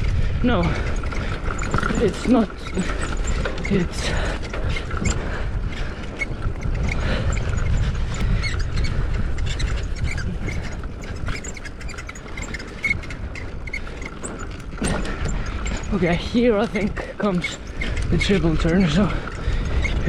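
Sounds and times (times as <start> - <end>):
bike rattling over bumps: 0.0 - 20.0
rumble of wind and tyres: 0.0 - 20.0.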